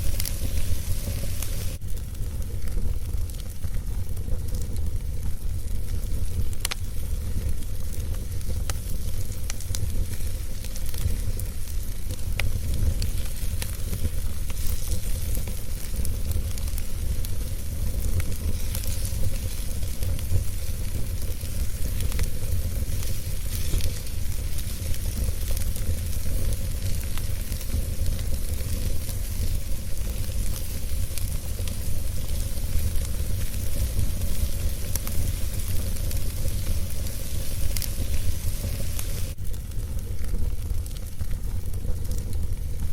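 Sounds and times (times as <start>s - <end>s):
crackles and pops of wood: 0.0s - 42.9s
wood fire burning: 0.0s - 42.9s.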